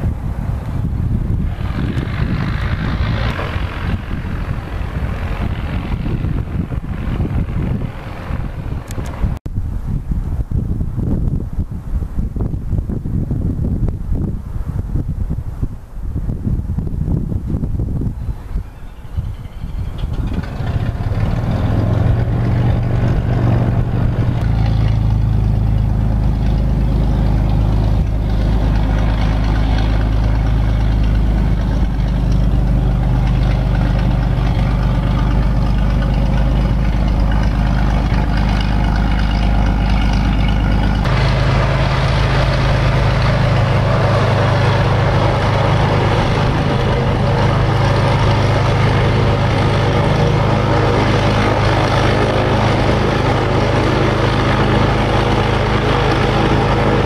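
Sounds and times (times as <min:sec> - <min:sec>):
light aircraft engine humming: 0:00.0 - 0:57.0.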